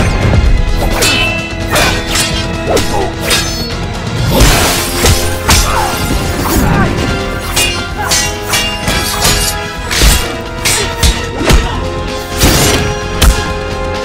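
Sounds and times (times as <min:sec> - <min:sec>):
dramatic background music: 0:00.0 - 0:14.0.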